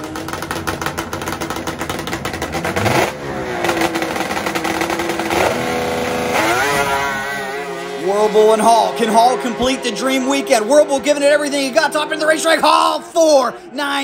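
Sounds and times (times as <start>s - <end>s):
snowmobile engines revving: 0.0s - 14.0s.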